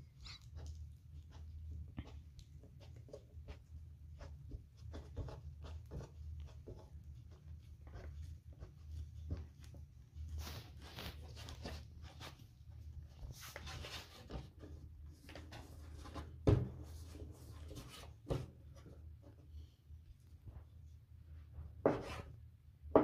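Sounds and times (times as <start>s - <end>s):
hands rubbing and patting dough: 0.0s - 22.5s.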